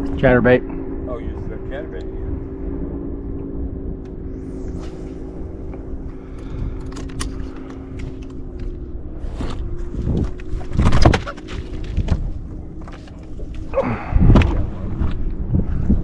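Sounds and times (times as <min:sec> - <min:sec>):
low wind rumble: 0:00.0 - 0:16.0
steady multi-tone hum: 0:00.0 - 0:16.0.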